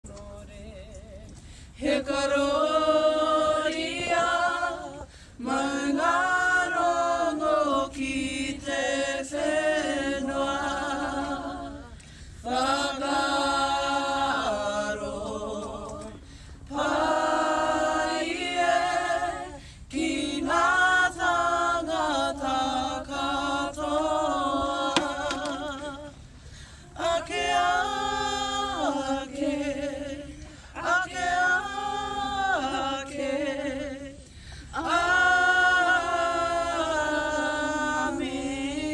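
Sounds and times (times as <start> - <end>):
group of voices singing: 0.1 - 38.9.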